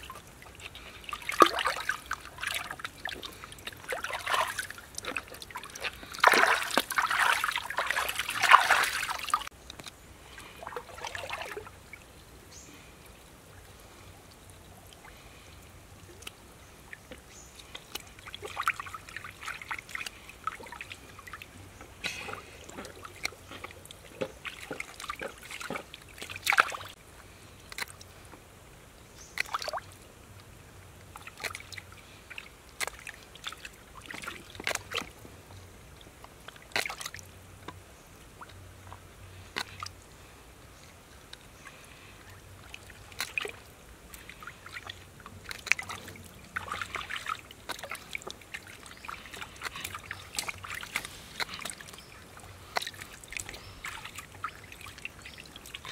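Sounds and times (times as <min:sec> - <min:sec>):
water splashing: 0:00.0 - 0:12.2, 0:12.8 - 0:28.2, 0:29.3 - 0:40.4, 0:41.0 - 0:55.9
water sloshing and dripping: 0:00.0 - 0:55.9.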